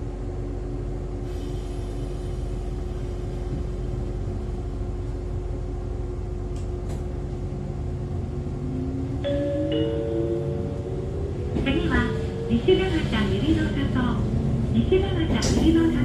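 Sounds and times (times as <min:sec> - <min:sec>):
train interior rumble and hum: 0:00.0 - 0:16.0.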